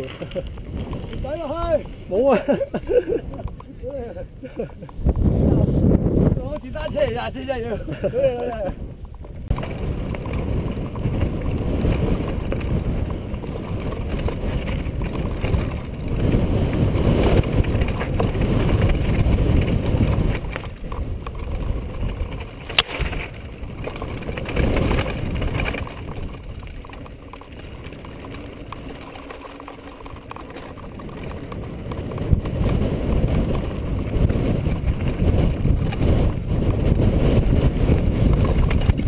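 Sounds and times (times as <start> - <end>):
bike rattling: 0.0 - 39.0
bike tyres rumbling over gravel: 0.0 - 39.0.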